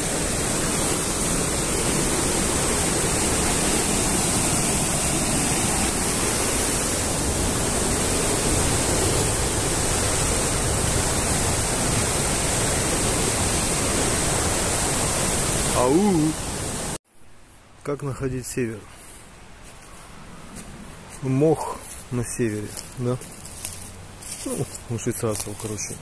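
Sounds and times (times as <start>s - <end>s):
falling water rushing: 0.0s - 17.0s, 21.3s - 26.0s.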